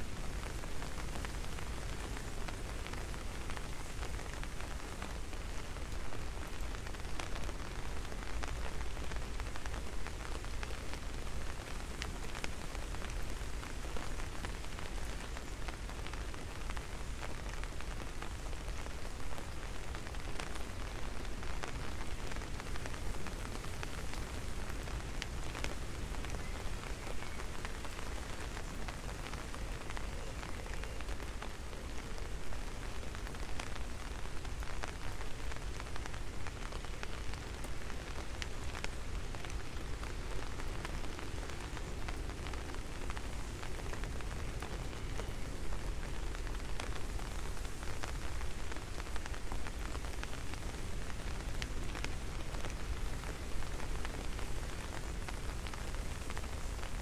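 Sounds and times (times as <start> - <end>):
rain on leaves and road: 0.0 - 57.0.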